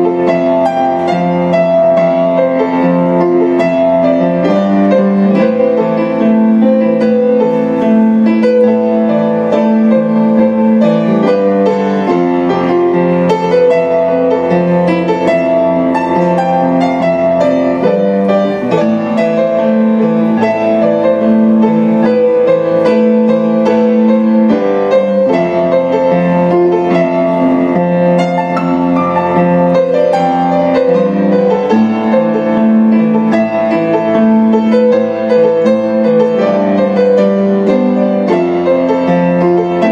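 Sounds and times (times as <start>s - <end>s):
piano playing sustained chords: 0.0s - 39.9s.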